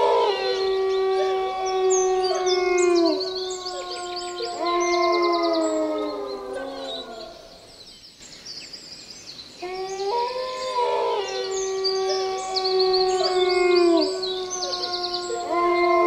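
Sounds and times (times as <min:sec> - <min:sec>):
drawn-out howls: 0:00.0 - 0:07.8, 0:09.6 - 0:16.0
birds chirping: 0:00.0 - 0:16.0.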